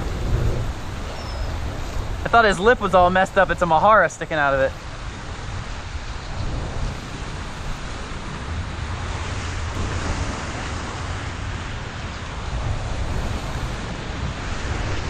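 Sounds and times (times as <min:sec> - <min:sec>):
surf washing in: 0:00.0 - 0:15.0
wind buffeting microphone: 0:00.0 - 0:15.0.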